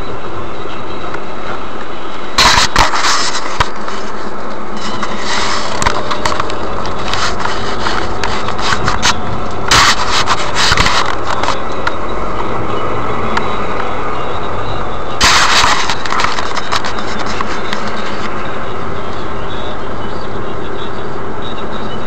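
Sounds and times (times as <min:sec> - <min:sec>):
rushing noise: 0:00.0 - 0:21.4
car road and engine noise: 0:00.0 - 0:22.0.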